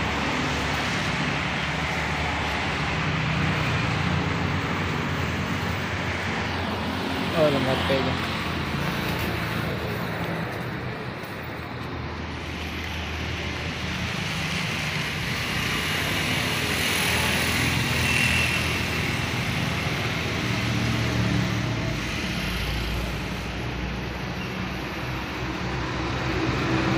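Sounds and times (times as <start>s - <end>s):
vehicle passing: 0.0s - 23.6s
road traffic noise: 0.0s - 26.9s.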